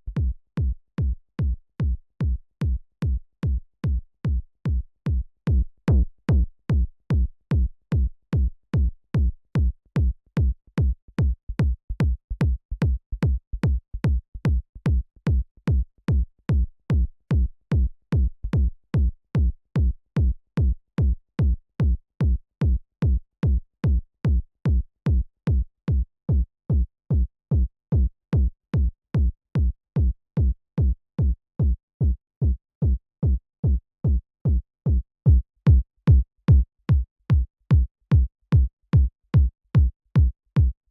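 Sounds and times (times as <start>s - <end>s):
electronic kick drum looping: 0.1s - 40.8s.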